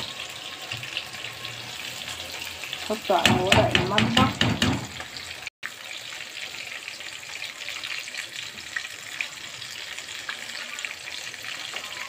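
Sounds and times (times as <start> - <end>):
meat deep-frying in oil: 0.0 - 12.0.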